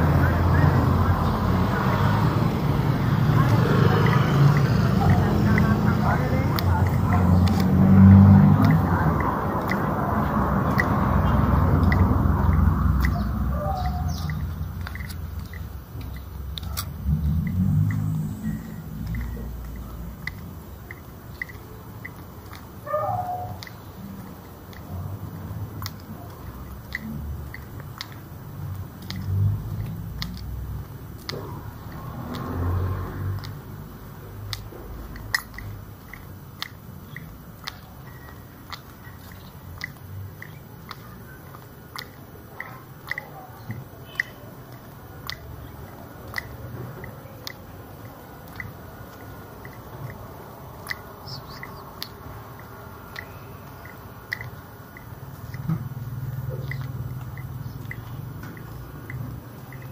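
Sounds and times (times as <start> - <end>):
footsteps on a street: 0.0 - 59.9.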